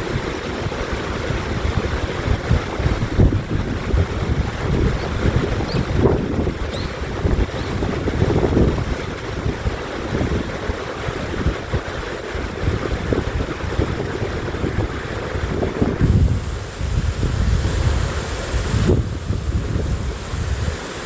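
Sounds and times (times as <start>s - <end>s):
stream rushing: 0.0s - 21.0s
wind buffeting microphone: 0.0s - 21.0s.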